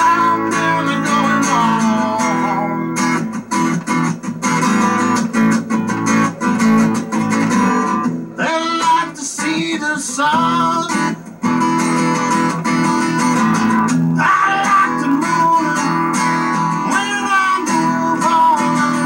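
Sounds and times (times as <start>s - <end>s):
acoustic guitar strumming blues: 0.0s - 19.0s.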